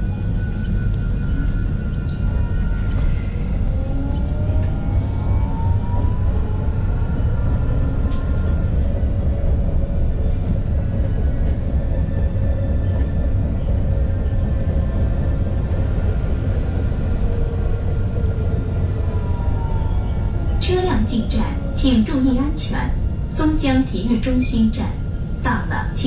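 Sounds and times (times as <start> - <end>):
tram wheels rumbling on rail: 0.0 - 26.0.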